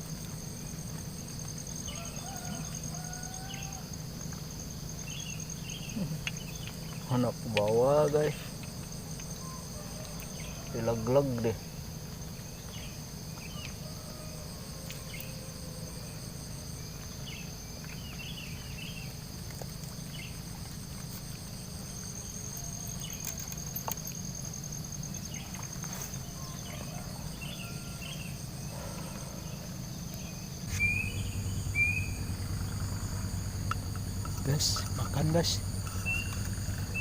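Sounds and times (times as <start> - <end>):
insects trilling: 0.0 - 37.0
low steady hum: 0.0 - 37.0.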